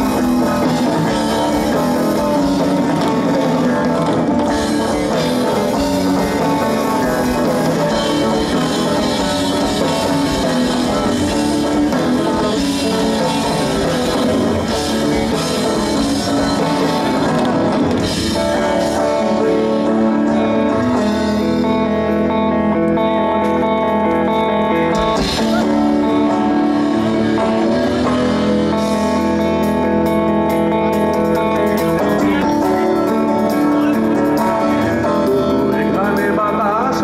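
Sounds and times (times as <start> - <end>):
drum kit: 0.0 - 37.0
electric guitars: 0.0 - 37.0.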